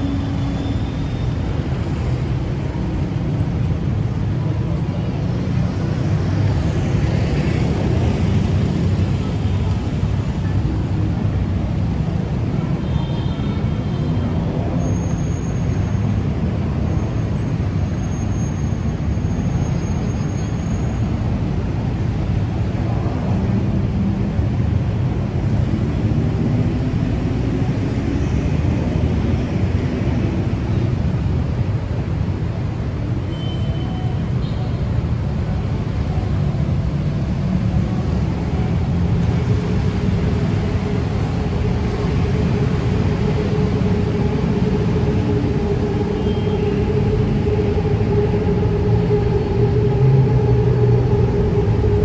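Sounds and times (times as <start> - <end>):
heavy road traffic rumble: 0.0 - 52.0.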